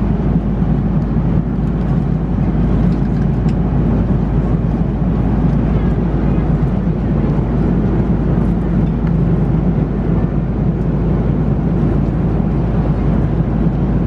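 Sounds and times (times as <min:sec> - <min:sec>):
airliner cabin drone: 0:00.0 - 0:14.0.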